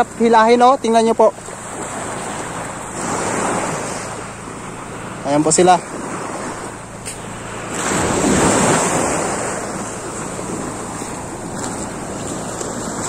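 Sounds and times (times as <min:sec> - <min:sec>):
small waves breaking on shore: 0:00.0 - 0:13.0
wind buffeting microphone: 0:00.8 - 0:13.0.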